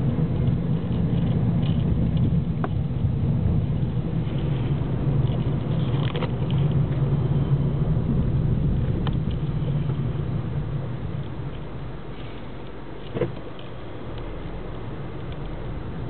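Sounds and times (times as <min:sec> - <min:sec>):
car engine and tyre drone: 0:00.0 - 0:16.0.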